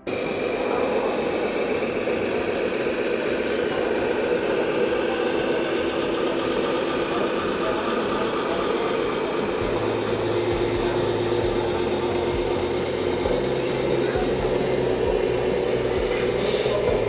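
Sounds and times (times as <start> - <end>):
engine idling: 0.0 - 17.0
faint steady whine: 0.0 - 17.0.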